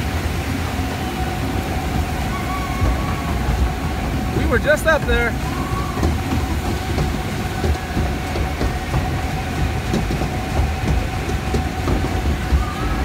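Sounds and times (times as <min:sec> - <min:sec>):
faint constant whine: 0:00.0 - 0:13.0
lift conveyor clattering rumble: 0:00.0 - 0:13.0.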